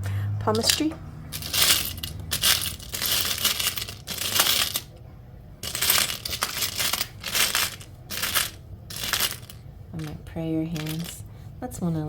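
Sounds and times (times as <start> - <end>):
small charms clinking and rattling: 0.6 - 4.9, 5.6 - 11.2.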